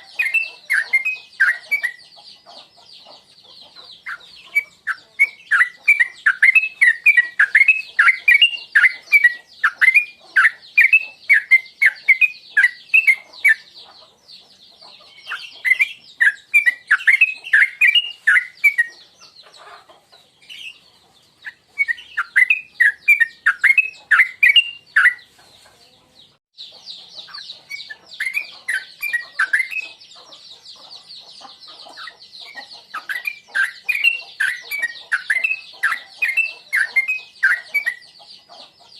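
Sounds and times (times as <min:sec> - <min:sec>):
bird warbling song: 0:00.0 - 0:38.9.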